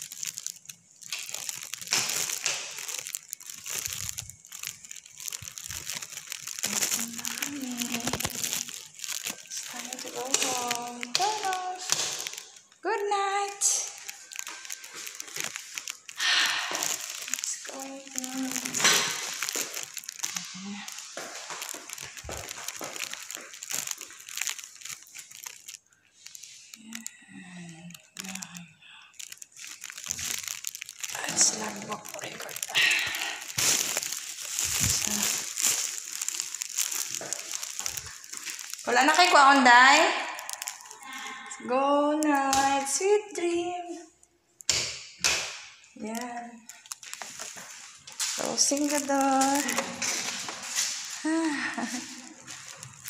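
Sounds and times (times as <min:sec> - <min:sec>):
thin plastic crinkling: 0:00.0 - 0:53.0.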